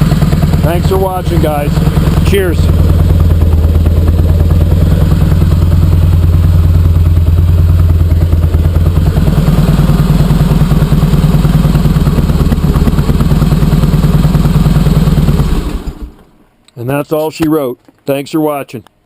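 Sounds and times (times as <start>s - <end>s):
motorcycle engine rumbling: 0.0s - 16.5s.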